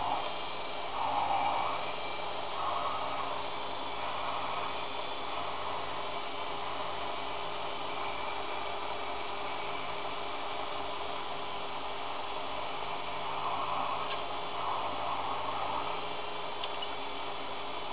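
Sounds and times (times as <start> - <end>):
lathe motor and gear whine: 0.0 - 17.9.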